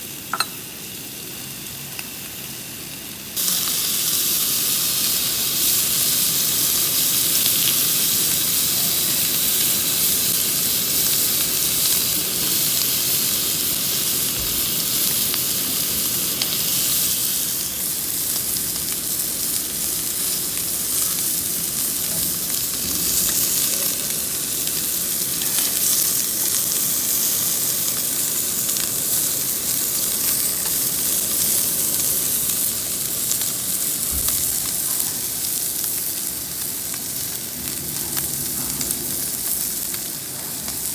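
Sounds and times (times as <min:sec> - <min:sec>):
meat sizzling on grill: 0:00.0 - 0:40.9.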